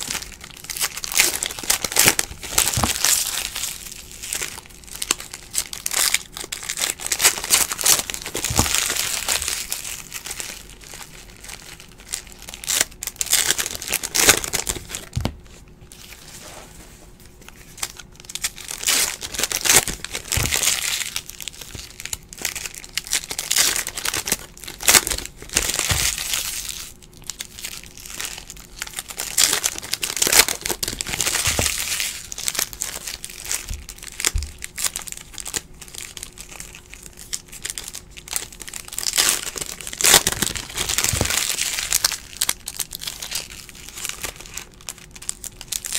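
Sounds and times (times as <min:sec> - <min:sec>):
card pack wrappers crinkling: 0:00.0 - 0:16.6, 0:17.2 - 0:45.9.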